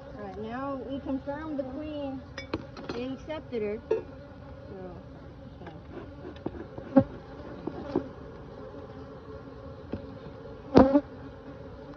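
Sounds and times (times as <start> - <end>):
bees buzzing: 0.0 - 11.9.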